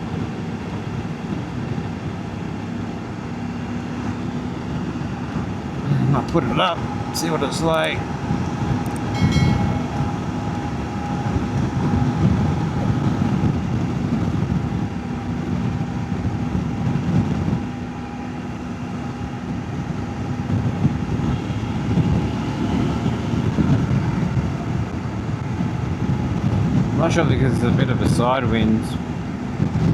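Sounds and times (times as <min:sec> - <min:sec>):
motorcycle engine hum: 0:00.0 - 0:29.9
wind buffeting microphone: 0:00.0 - 0:29.9.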